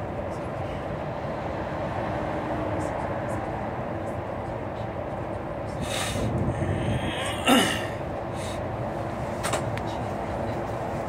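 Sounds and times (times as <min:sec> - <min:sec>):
bus engine and road drone: 0:00.0 - 0:11.0.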